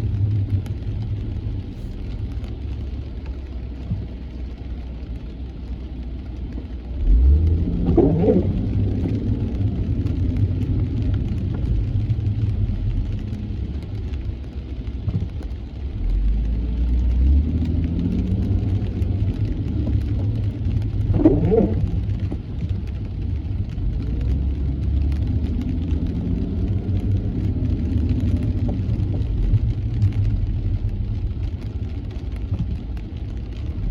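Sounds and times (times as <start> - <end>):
car road and engine rumble: 0.0 - 33.9
faint rain hiss: 0.0 - 33.9.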